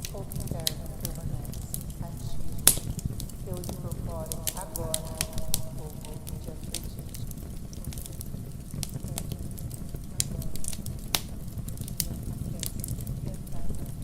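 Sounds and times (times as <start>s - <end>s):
fireplace fire crackling: 0.0s - 14.0s
low rumble: 0.0s - 14.0s.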